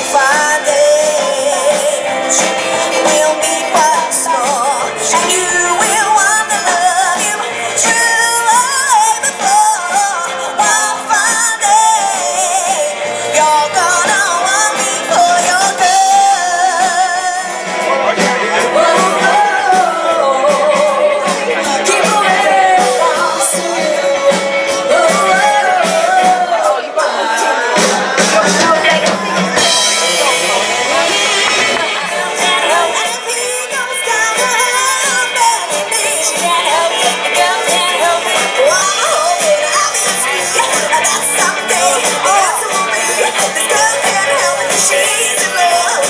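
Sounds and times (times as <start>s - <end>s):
female lead vocals: 0.0s - 46.0s
rock and roll band playing: 0.0s - 46.0s.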